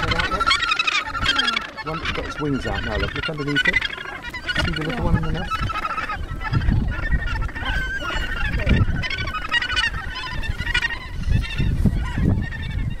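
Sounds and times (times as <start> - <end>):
gannet colony calling: 0.0 - 13.0.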